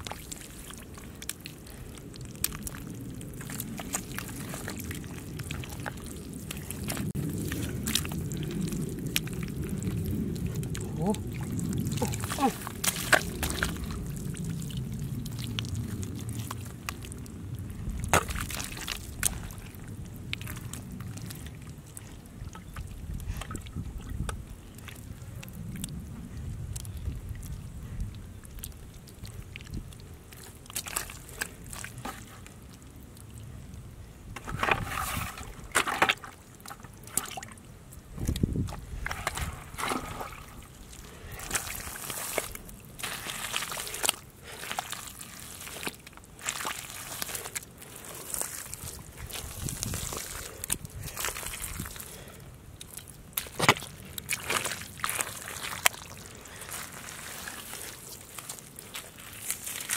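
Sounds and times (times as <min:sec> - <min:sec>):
hands squelching in wet mud: 0:00.0 - 0:33.7, 0:34.3 - 0:59.9.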